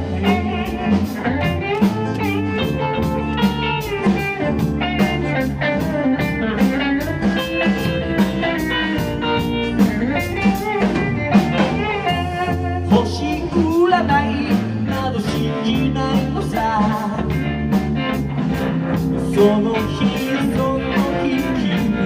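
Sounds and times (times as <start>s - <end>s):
bass: 0.0s - 22.0s
drum kit beat: 0.0s - 22.0s
electric guitar lead: 0.0s - 22.0s.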